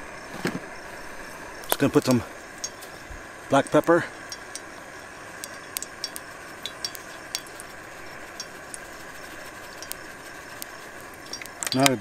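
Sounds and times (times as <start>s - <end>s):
cooking oil hissing in a pan: 0.0s - 12.0s
small crackles and ticks: 0.3s - 12.0s.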